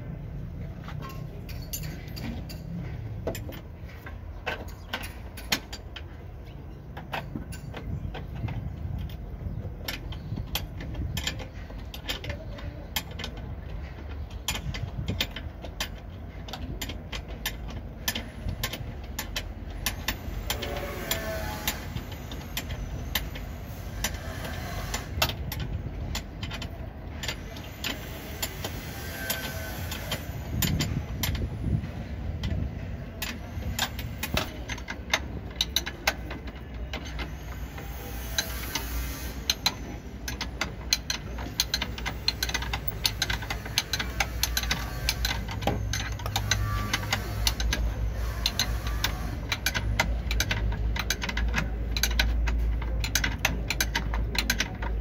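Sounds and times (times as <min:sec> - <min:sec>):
metallic clicks of hand tools: 0:00.8 - 0:06.2, 0:06.9 - 0:55.0.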